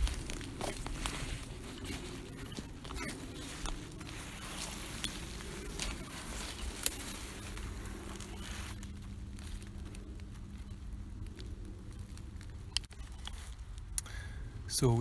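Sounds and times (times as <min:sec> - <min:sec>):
rustling of leaf litter: 0:00.0 - 0:15.0.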